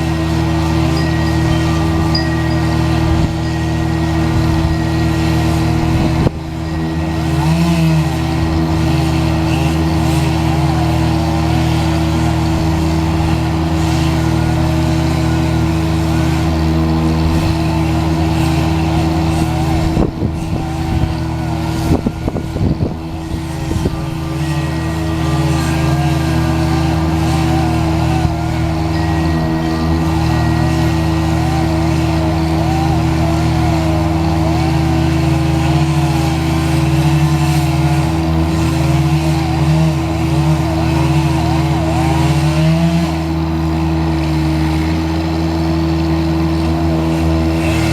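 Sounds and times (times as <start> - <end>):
large engine running at high speed: 0.0 - 47.9.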